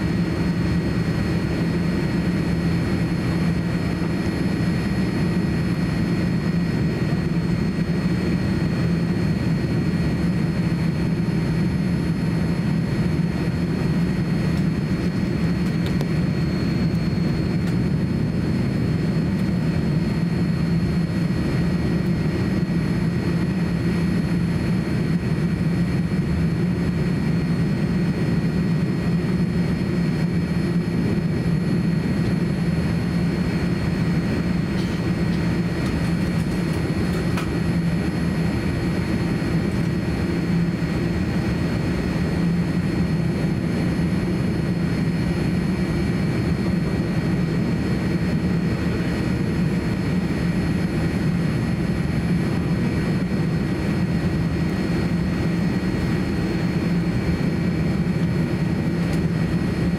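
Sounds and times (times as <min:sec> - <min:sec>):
faint steady whines: 0:00.0 - 0:59.9
jet engines idling: 0:00.0 - 0:59.9.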